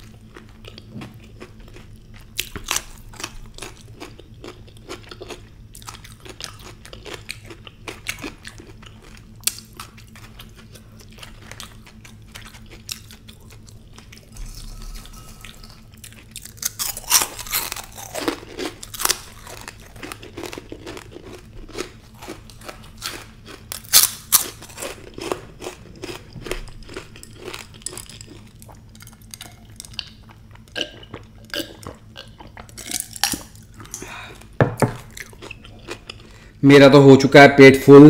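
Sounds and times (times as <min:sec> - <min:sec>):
crunching crisp fried papad: 0:00.0 - 0:36.6.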